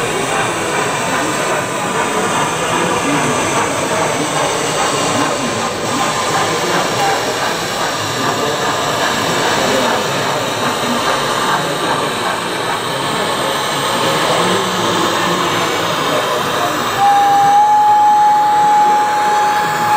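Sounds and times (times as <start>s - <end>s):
model trains running: 0.0s - 19.9s
murmur of voices: 0.0s - 19.9s.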